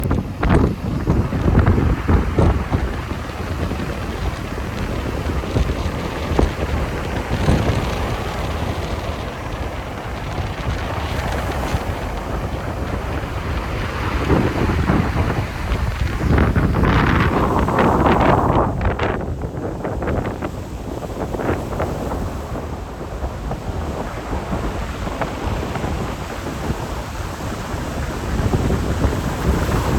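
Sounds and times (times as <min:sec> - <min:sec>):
sea waves washing on shore: 0:00.0 - 0:29.9
wind buffeting microphone: 0:00.0 - 0:29.9.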